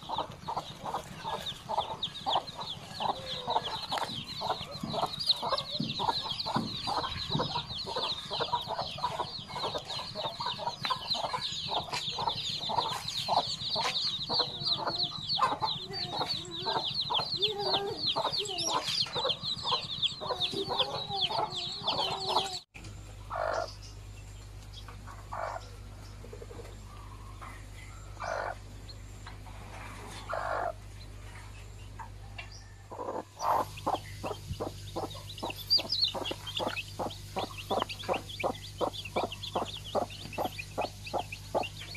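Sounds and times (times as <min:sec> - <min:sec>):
hen clucking: 0:00.0 - 0:22.7, 0:23.3 - 0:23.8, 0:24.8 - 0:31.0, 0:32.0 - 0:41.9
chicks peeping: 0:00.0 - 0:41.9
steady low hum: 0:00.0 - 0:41.9.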